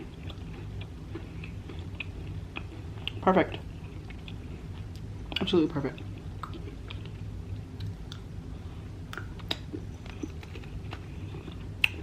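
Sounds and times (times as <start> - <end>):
chewing with wet mouth clicks: 0.0 - 8.3, 9.1 - 12.0
faint steady hum: 0.0 - 12.0.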